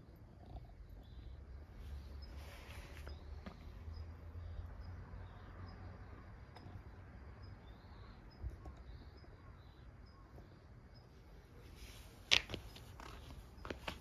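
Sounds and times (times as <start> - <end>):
faint high-pitched chirps: 0.0 - 14.0.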